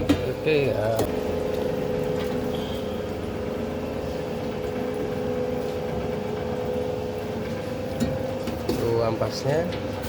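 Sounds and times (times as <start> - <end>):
juice press motor humming: 0.0 - 10.0.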